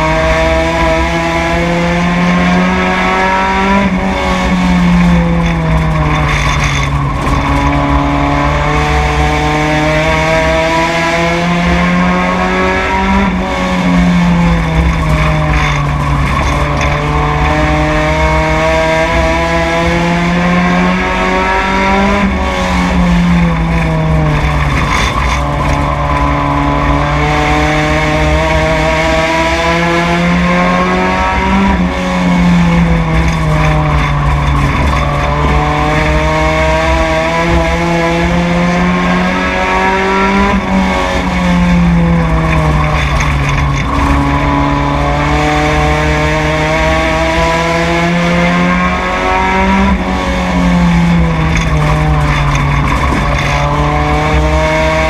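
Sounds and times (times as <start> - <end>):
race car engine revving: 0.0 - 55.0
road and wind noise: 0.0 - 55.0.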